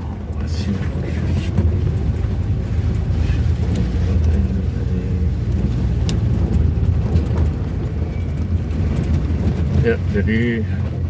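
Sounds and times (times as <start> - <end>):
road rumble: 0.0 - 11.0
vehicle engine drone: 0.0 - 11.0.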